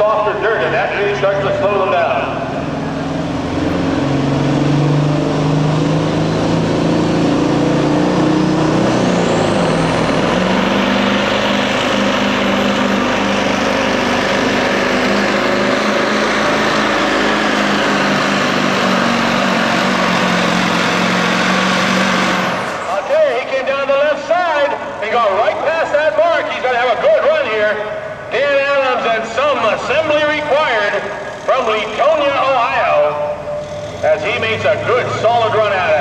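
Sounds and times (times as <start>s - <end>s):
truck diesel engine at full throttle: 0.0s - 36.0s.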